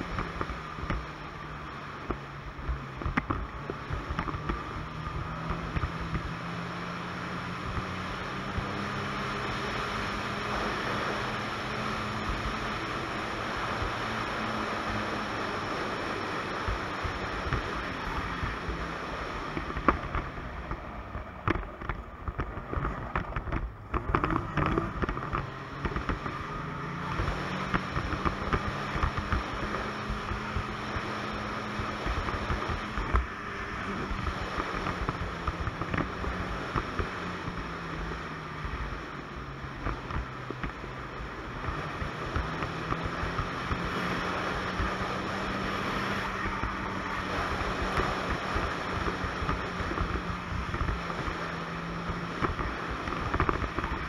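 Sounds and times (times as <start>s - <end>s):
snowmobile engine running: 0.0s - 54.0s
wind noise on microphone: 0.0s - 54.0s.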